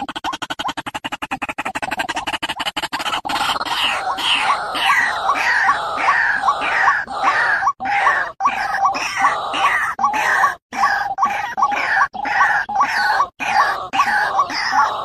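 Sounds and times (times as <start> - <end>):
bird calls: 0.0 - 15.0.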